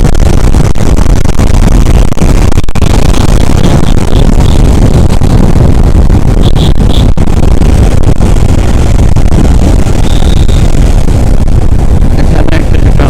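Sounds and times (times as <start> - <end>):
wind rush on microphone: 0.0 - 13.0
motorcycle engine: 2.3 - 13.0.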